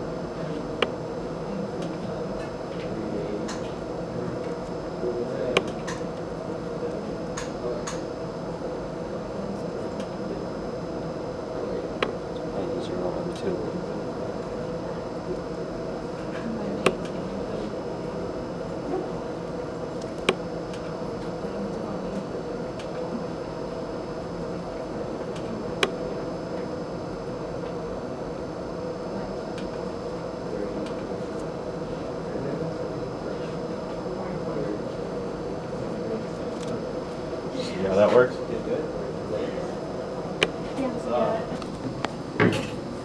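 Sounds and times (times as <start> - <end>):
ventilation hum: 0.0 - 43.0.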